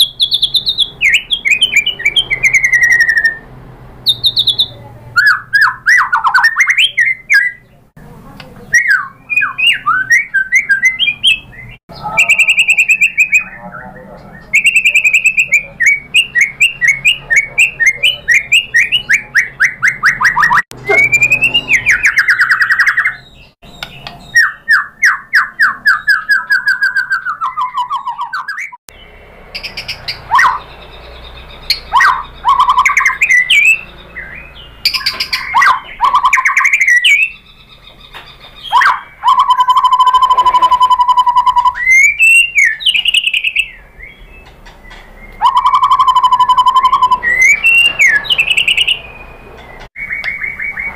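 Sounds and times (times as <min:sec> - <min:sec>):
bird singing varied song: 0:00.0 - 0:50.9.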